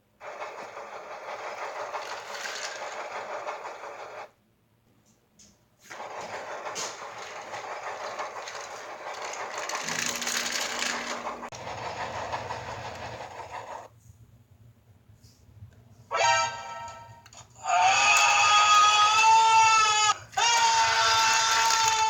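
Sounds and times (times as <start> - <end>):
continuous mechanical clatter: 0.0 - 4.4, 5.0 - 13.9, 17.2 - 22.0.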